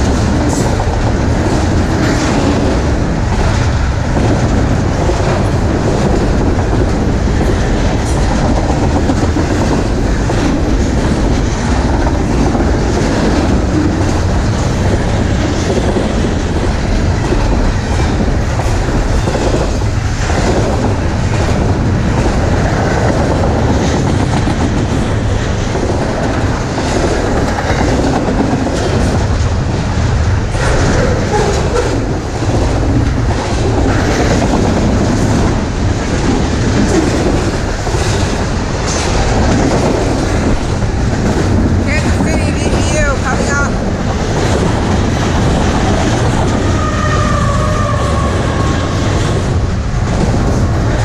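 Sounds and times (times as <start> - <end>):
freight train rumbling: 0.0 - 51.0
wheels clacking over rail joints: 0.0 - 51.0.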